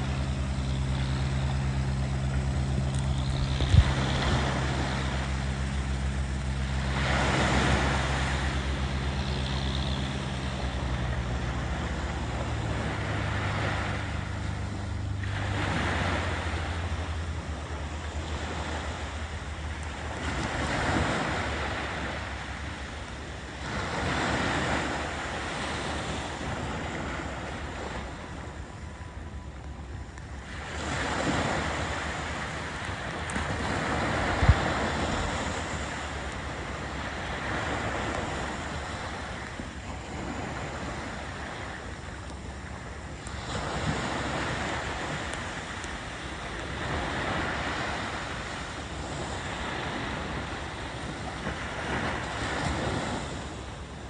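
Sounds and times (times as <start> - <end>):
low engine drone: 0.0 - 54.0
sea waves washing onto beach: 0.0 - 54.0.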